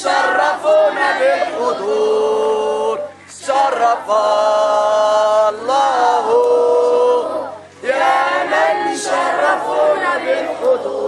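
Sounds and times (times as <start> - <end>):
children singing in unison: 0.0 - 4.7, 5.7 - 11.0.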